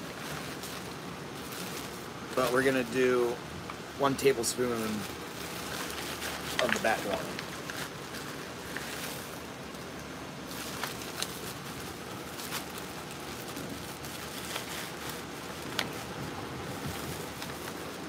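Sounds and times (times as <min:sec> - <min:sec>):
paper bag rustling: 0:00.0 - 0:03.2, 0:04.1 - 0:18.0
fan blowing air: 0:00.0 - 0:18.0.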